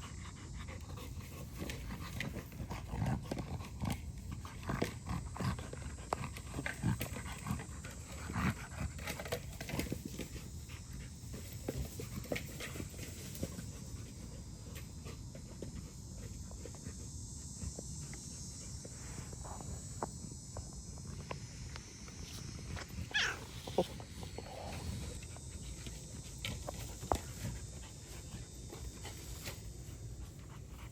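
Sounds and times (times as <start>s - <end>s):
dog panting: 0.0s - 18.8s, 23.1s - 30.9s.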